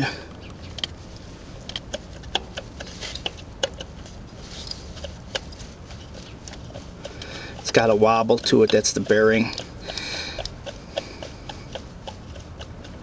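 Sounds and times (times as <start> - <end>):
pulley clicking and knocking: 1.6 - 13.0.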